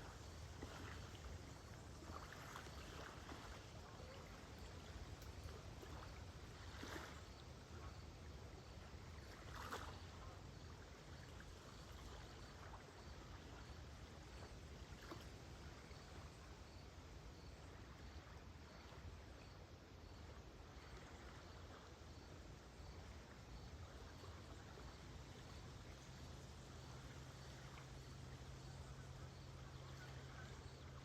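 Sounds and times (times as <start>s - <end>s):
cricket chirping: 0.0s - 31.0s
small waves lapping at shore: 0.0s - 31.0s
soft water splashes: 0.0s - 31.0s.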